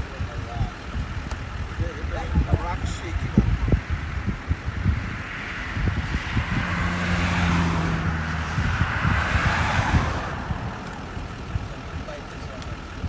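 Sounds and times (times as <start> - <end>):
vehicle engine hum: 0.0 - 13.0
wind buffeting microphone: 0.0 - 13.0.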